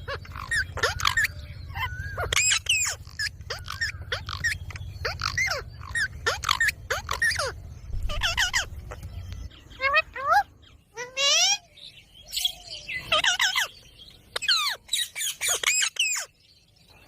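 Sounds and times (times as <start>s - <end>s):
parakeet squawking and chattering: 0.0s - 11.7s, 12.3s - 16.4s
steady low hum: 0.0s - 15.0s.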